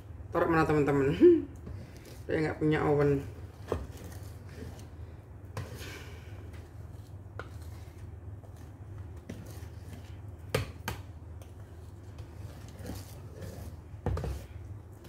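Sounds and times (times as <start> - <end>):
whisk scraping batter in a bowl: 1.6 - 10.5, 11.4 - 15.0.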